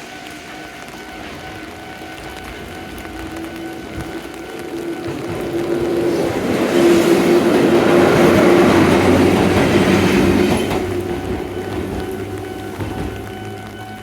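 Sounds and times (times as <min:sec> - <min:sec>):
crossing bell ringing tone: 0:00.0 - 0:14.0
electric train passing: 0:00.0 - 0:14.0.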